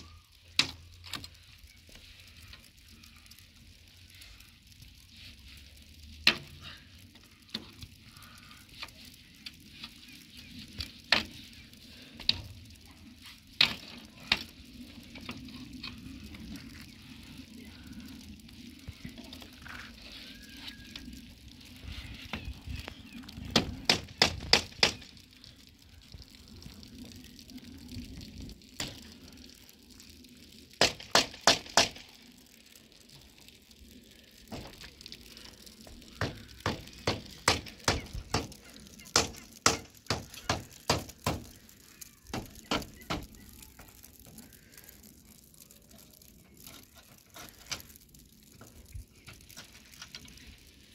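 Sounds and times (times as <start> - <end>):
steady hiss: 0.0 - 50.9.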